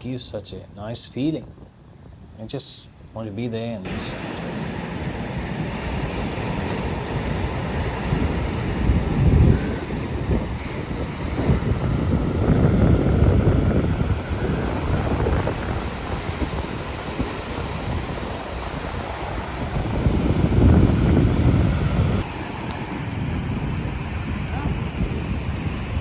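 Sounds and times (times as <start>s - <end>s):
wind rumbling on microphone: 0.0s - 26.0s
ocean surf breaking on beach: 3.9s - 26.0s.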